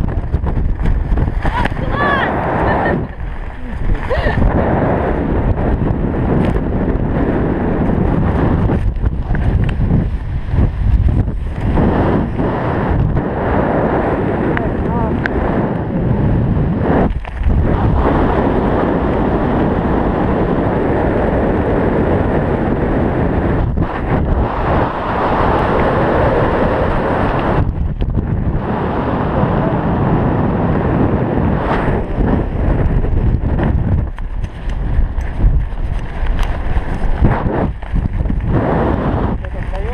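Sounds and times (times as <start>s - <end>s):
freefall wind buffeting microphone: 0.0s - 39.9s.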